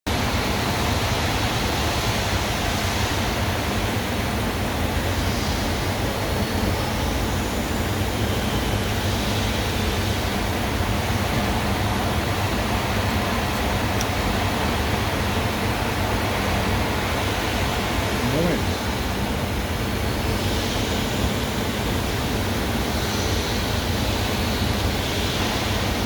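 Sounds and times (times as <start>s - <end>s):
continuous machine hiss: 0.1s - 26.0s.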